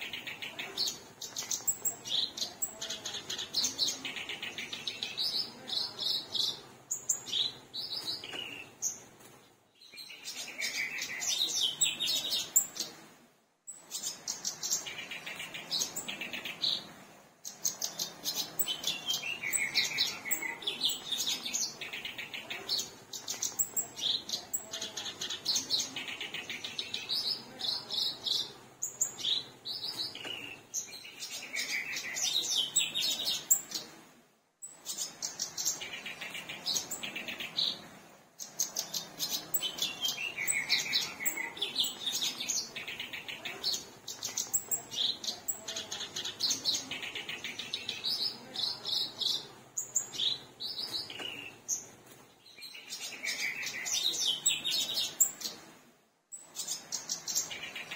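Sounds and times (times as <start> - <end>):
warbler singing scratchy song: 0.0 - 34.0, 34.6 - 57.9.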